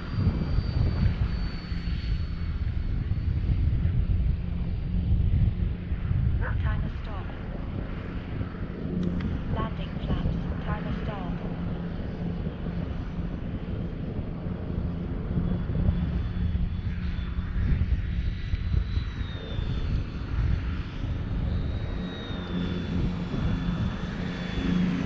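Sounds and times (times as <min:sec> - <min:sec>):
model plane motor whine: 0:00.0 - 0:06.4, 0:07.3 - 0:25.0
wind on microphone: 0:00.0 - 0:25.0.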